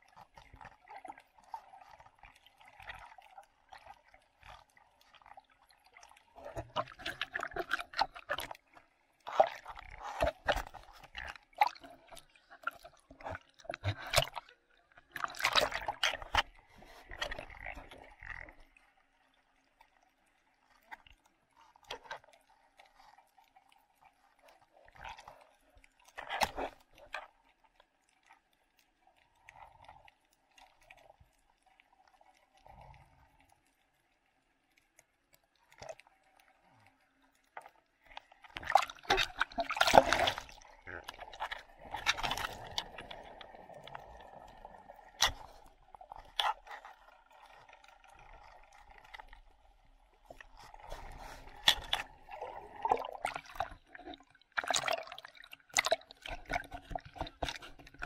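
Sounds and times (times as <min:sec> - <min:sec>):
bubbling and rushing water: 0:00.0 - 0:33.8, 0:35.6 - 0:58.0
underwater gurgles: 0:00.0 - 0:58.0.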